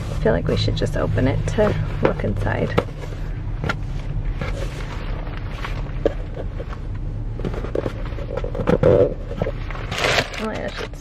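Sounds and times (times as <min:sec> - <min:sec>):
ribbon and cardboard rustling: 0:00.0 - 0:11.0
steady low rumble: 0:00.0 - 0:11.0.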